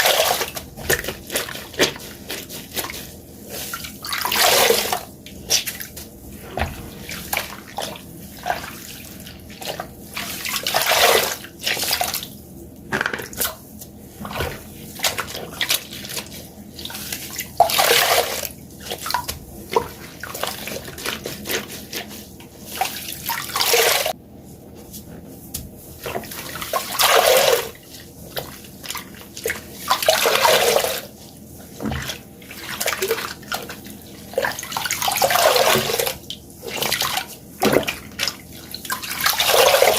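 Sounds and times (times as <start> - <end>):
water gushing from sponge: 0.0 - 12.4, 13.3 - 24.2, 25.8 - 39.9.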